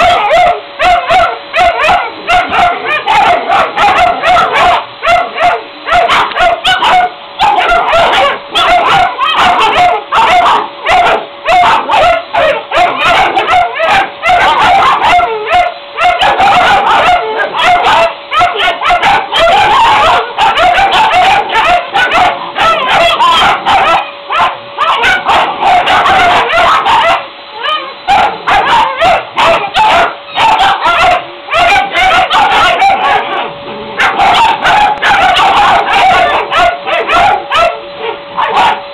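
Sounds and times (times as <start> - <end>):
puppies barking and yapping: 0.0 - 38.9
steady hum: 0.0 - 38.9.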